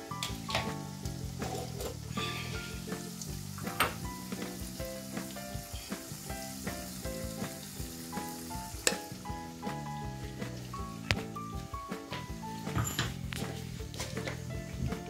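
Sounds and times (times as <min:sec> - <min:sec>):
food sizzling in deep-fry oil: 0:00.0 - 0:15.0
light background music: 0:00.0 - 0:15.0.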